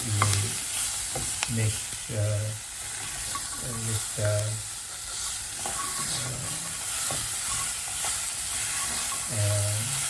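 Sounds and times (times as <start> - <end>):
beans sizzling in hot oil: 0.0 - 10.0.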